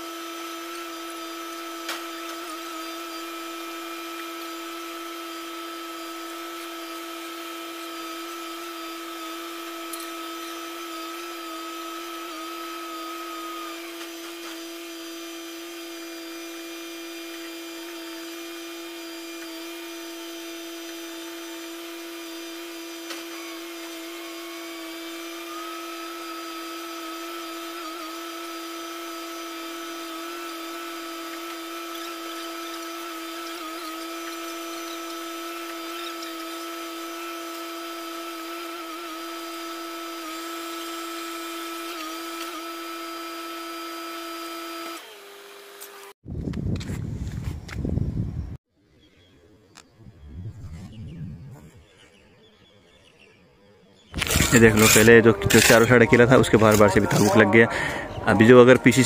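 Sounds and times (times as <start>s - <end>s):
small motor whining: 0.0s - 46.2s, 46.8s - 59.0s.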